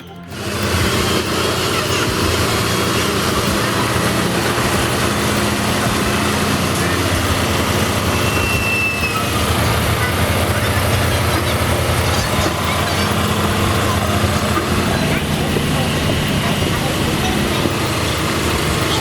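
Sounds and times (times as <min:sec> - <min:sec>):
brief high whine: 0:00.0 - 0:18.8
truck diesel engine running: 0:00.0 - 0:19.0.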